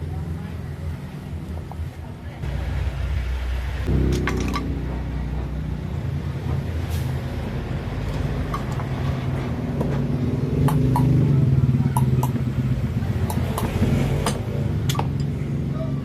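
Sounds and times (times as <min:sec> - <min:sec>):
exhaust fan humming: 0:00.8 - 0:16.0.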